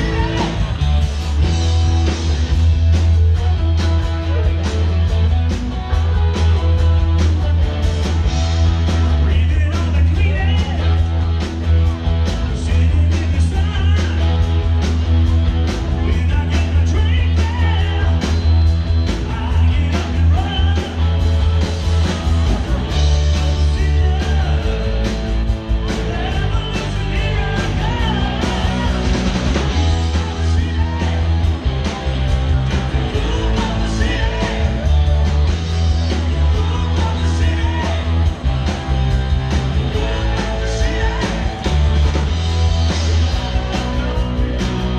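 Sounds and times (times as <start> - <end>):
live rock band: 0.0 - 44.9.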